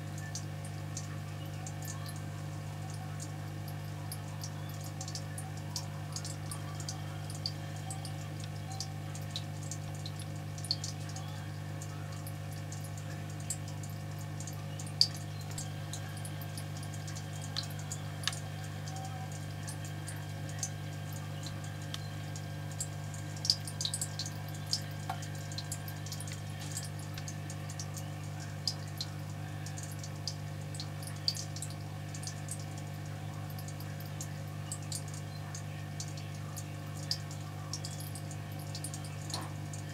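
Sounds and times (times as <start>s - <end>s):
aquarium pump humming: 0.0s - 39.9s
water drips: 0.0s - 39.9s.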